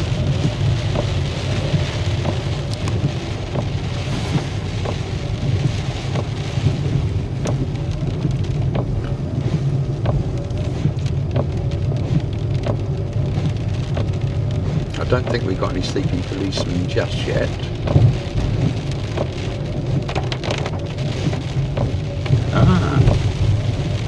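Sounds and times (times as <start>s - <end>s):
car engine and road rumble: 0.0s - 24.0s
raindrops ticking on car roof: 0.0s - 24.0s.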